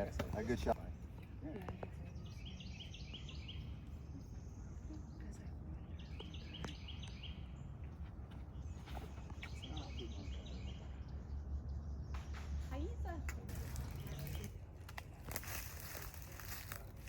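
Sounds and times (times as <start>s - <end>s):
low outdoor rumble: 0.0s - 17.0s
songbird singing: 0.0s - 17.0s.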